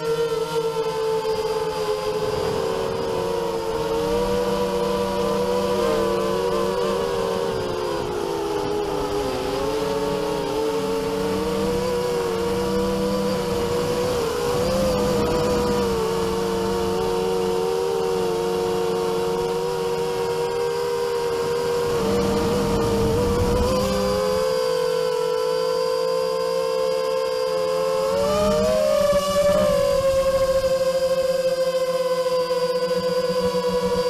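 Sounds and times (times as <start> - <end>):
drone motors and propellers buzzing: 0.0 - 34.0.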